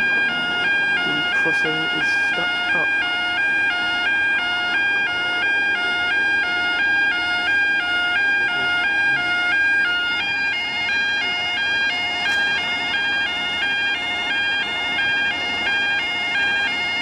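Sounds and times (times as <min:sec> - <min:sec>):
level crossing alarm two-tone warble: 0:00.0 - 0:17.0.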